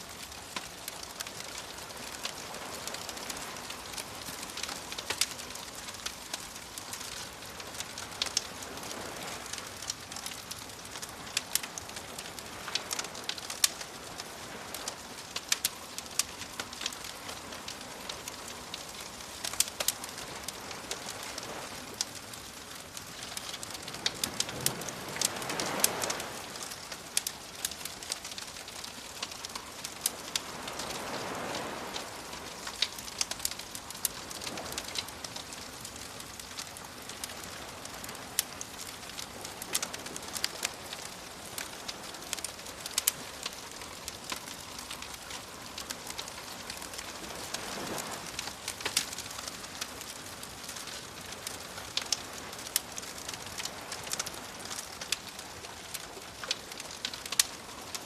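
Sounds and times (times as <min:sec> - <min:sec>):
waves washing on shore: 0:00.0 - 0:58.0
wood fire crackling: 0:00.0 - 0:58.0.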